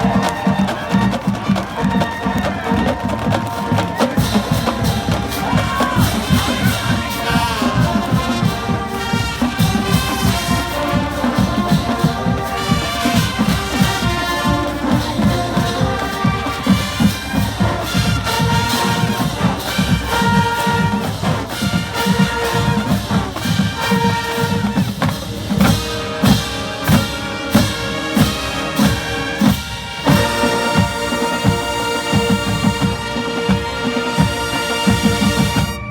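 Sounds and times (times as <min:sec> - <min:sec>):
heavy drum beats: 0:00.0 - 0:35.9
marching band playing: 0:00.0 - 0:35.9.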